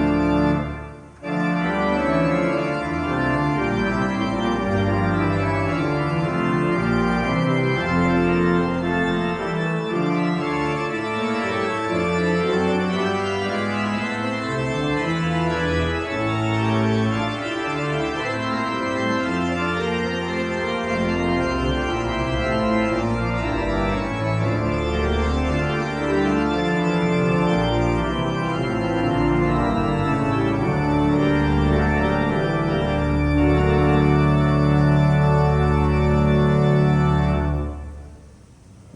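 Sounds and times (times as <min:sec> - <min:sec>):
pipe organ playing chords: 0:00.0 - 0:38.9.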